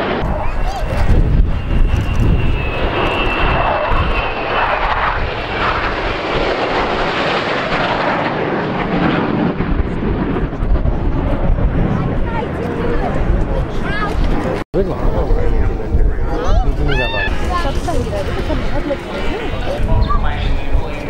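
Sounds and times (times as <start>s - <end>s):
jet fighters roaring overhead: 0.0s - 21.0s.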